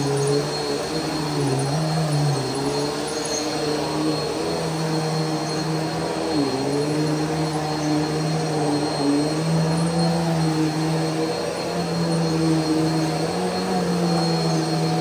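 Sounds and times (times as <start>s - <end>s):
vacuum cleaner motor hum: 0.0s - 15.0s
vacuum pushed over carpet: 0.0s - 15.0s.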